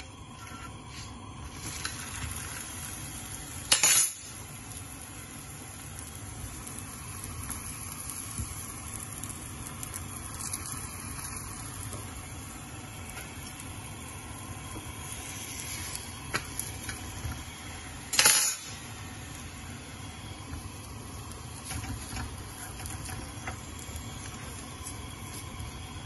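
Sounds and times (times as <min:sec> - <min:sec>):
flatbread sizzling on a griddle: 0:00.0 - 0:26.0.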